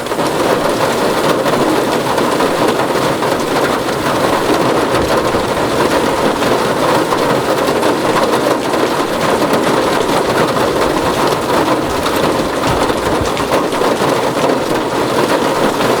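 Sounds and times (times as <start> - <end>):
rain on a tin roof: 0.0 - 16.0.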